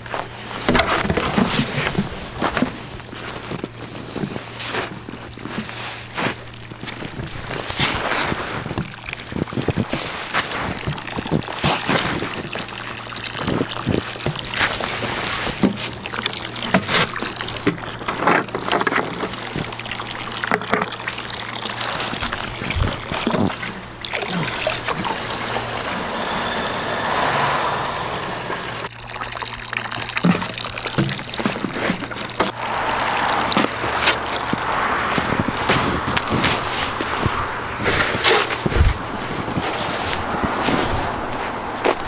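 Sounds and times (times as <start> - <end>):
water trickling from spout: 0.1 - 27.2, 28.8 - 42.0.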